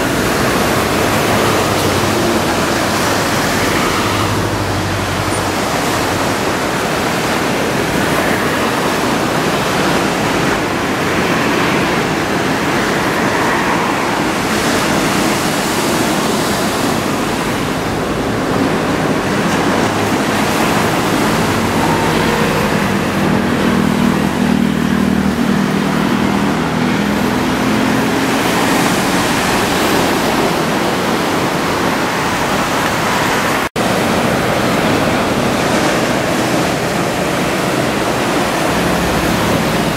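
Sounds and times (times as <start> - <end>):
surf waves roaring: 0.0 - 39.9
vehicle engine humming: 0.0 - 39.9.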